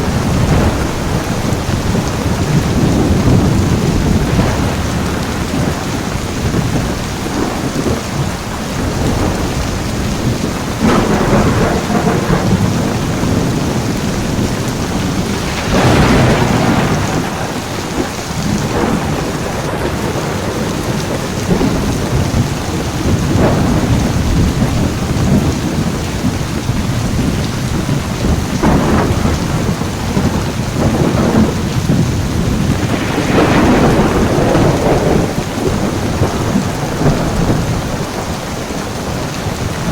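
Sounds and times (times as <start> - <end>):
heavy rain falling: 0.0 - 39.9
rolling thunder: 0.0 - 39.9.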